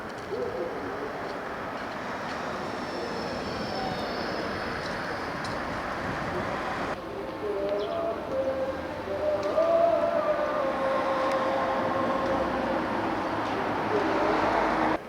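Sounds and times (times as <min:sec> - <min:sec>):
passing road traffic: 0:00.0 - 0:15.0.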